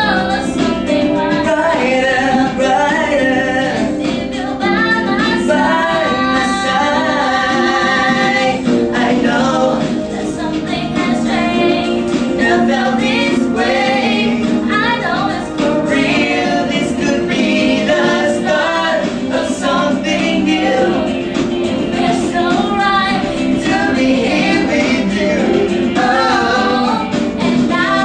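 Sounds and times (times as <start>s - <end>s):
backing music: 0.0s - 28.0s
person singing pop song: 0.0s - 28.0s.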